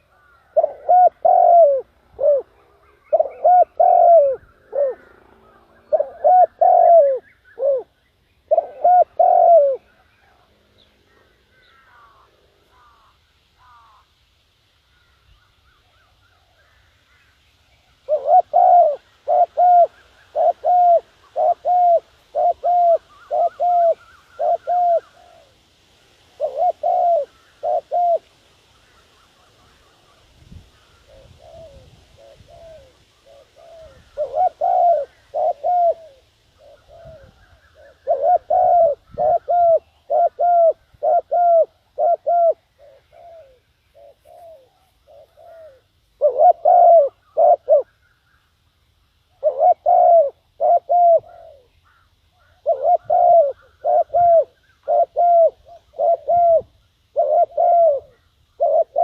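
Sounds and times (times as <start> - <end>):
dove cooing: 0.0 - 14.0, 17.9 - 48.2, 49.3 - 59.0
faint bird chirps: 0.0 - 25.6, 26.3 - 59.0.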